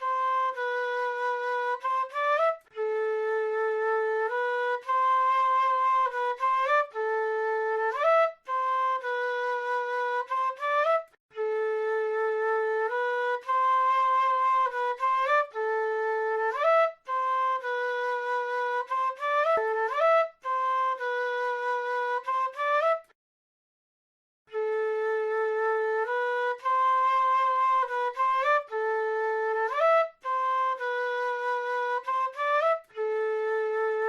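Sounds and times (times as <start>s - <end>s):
flute solo melody: 0.0s - 23.2s, 24.5s - 34.0s.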